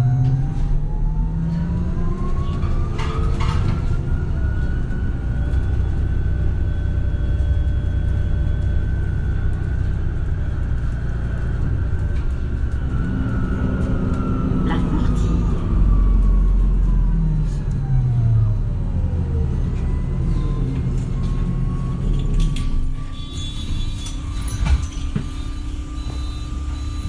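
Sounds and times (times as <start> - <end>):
electric bus drive whine: 0.0 - 27.0
low rumble: 0.0 - 27.0.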